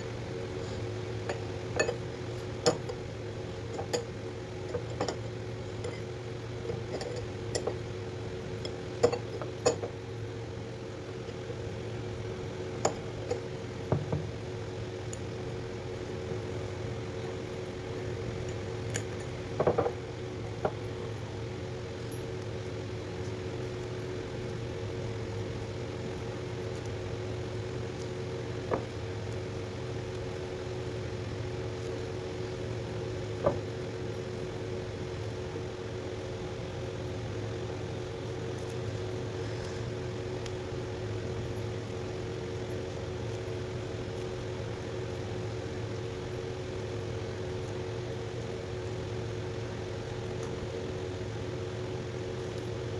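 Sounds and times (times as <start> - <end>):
low electrical hum: 0.0 - 52.9.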